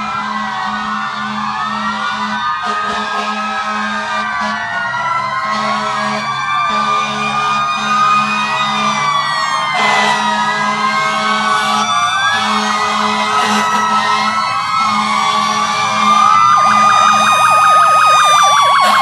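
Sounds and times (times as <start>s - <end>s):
fire engine sirens wailing: 0.0s - 19.0s.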